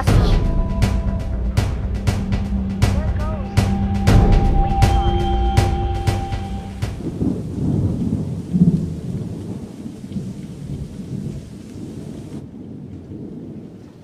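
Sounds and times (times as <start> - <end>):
low thunder-like rumble: 0.0 - 14.0.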